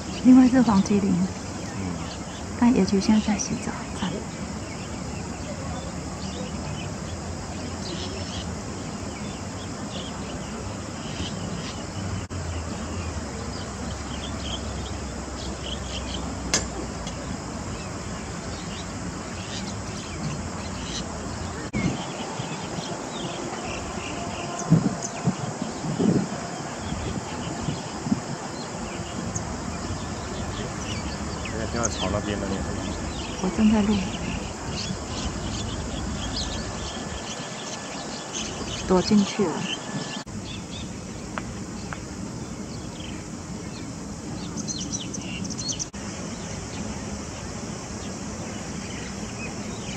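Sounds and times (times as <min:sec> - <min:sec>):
outdoor background hiss: 0:00.0 - 0:49.9.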